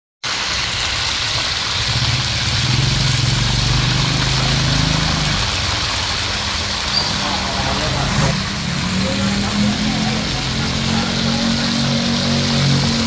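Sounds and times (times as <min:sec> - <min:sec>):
oil sizzling in a wok: 0:00.2 - 0:13.0
vehicle engine running: 0:01.7 - 0:06.8, 0:07.4 - 0:13.0.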